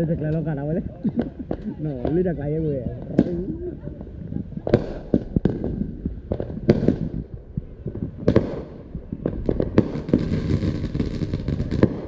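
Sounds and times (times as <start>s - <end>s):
fireworks banging and crackling: 0.0s - 12.0s.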